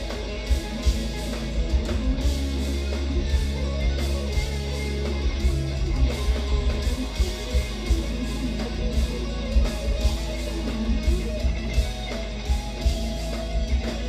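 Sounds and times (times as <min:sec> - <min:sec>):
electric guitar: 0:00.0 - 0:14.0.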